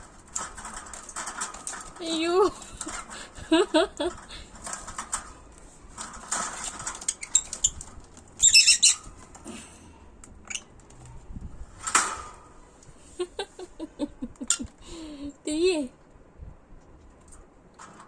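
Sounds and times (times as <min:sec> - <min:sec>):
birds moving in a cage: 0:00.0 - 0:14.8, 0:16.8 - 0:18.0.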